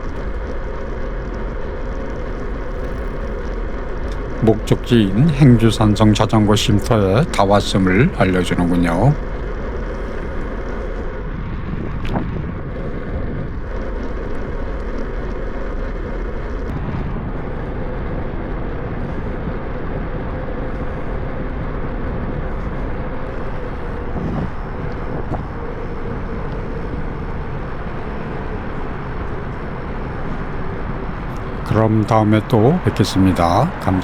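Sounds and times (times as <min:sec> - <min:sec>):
faint steady hum: 0:00.0 - 0:34.0
wind and road rumble: 0:00.0 - 0:34.0.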